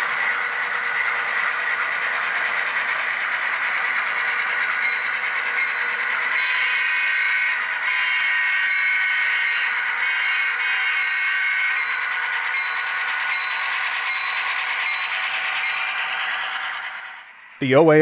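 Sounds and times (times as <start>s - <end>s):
model train diesel sound: 0.0s - 18.0s
model train rolling: 0.0s - 18.0s.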